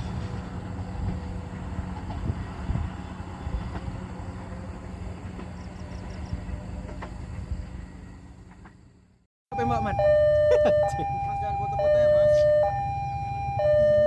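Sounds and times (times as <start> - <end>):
diesel locomotive engine humming: 0.0 - 14.0.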